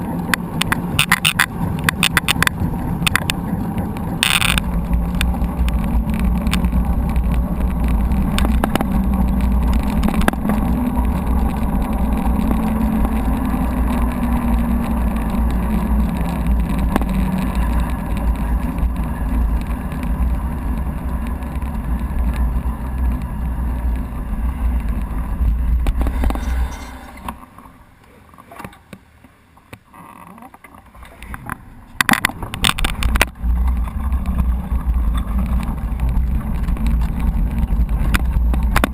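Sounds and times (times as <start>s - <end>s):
wind rumble on microphone: 0.0s - 27.4s, 31.0s - 38.9s
tyre and trail noise: 0.0s - 38.9s.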